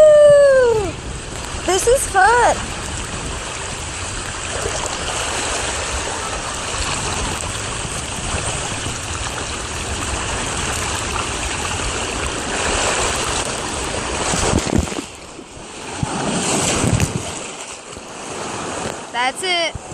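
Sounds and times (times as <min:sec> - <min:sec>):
water rushing down a slide: 0:00.0 - 0:19.1.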